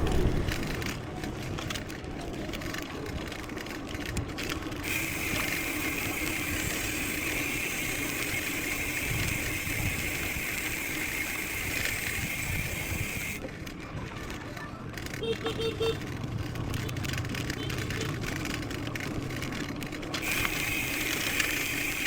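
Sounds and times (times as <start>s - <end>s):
bike knocks and rattles: 0.0s - 22.0s
bike rolling over trail: 0.0s - 22.0s.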